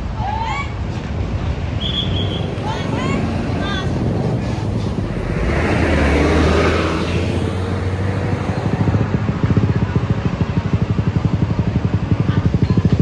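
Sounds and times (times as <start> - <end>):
low engine hum: 0.8 - 13.0
vehicle passing: 1.2 - 13.0
engine pulsing rapidly: 1.5 - 13.0.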